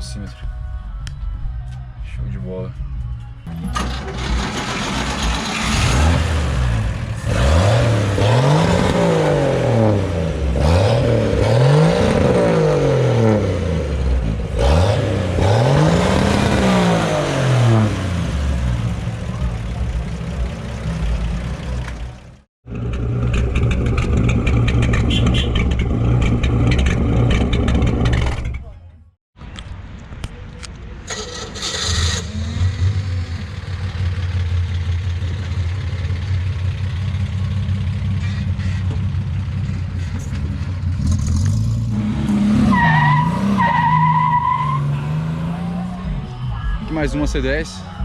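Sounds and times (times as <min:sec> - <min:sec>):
truck engine revving and idling: 0:03.4 - 0:28.8, 0:31.1 - 0:48.0.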